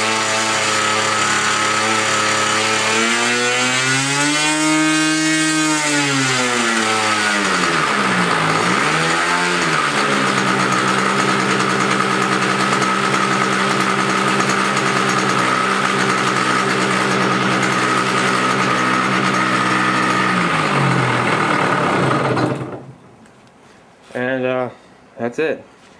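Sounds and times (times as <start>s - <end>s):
model airplane engine revving: 0.0s - 22.8s.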